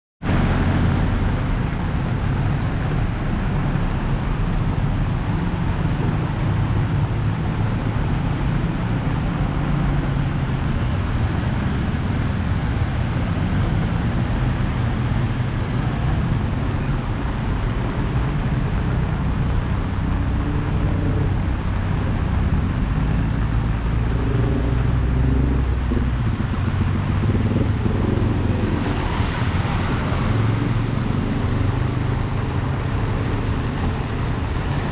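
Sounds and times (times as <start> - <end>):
road traffic rumble: 0.2 - 34.9.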